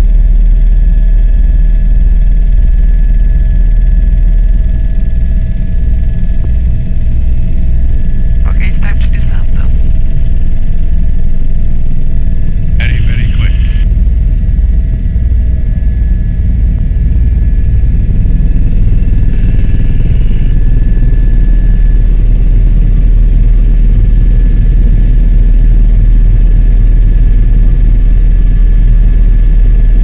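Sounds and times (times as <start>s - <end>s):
helicopter rotor and engine rumble: 0.0s - 30.0s
high whine: 2.8s - 30.0s.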